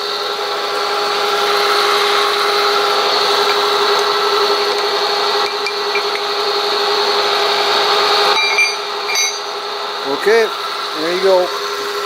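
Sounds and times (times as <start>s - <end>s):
milling machine whining: 0.0s - 12.0s.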